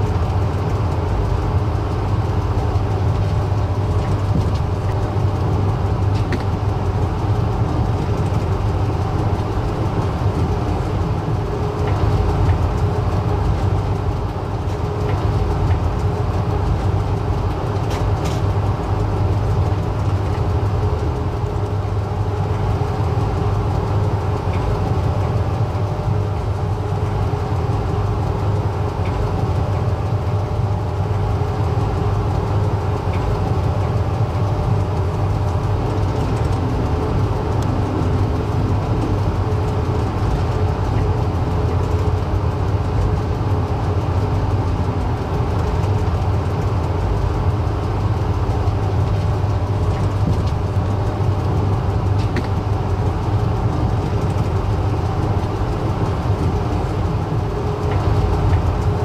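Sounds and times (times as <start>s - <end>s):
faint hum: 0.0s - 59.0s
train rumbling: 0.0s - 59.0s.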